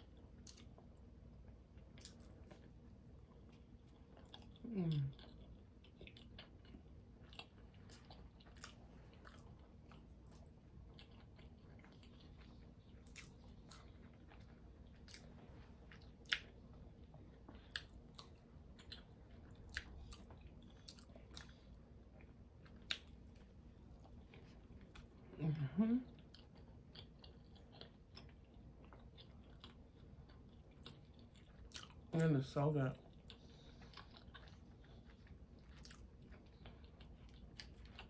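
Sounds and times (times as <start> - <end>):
person chewing wetly: 0.0 - 38.0.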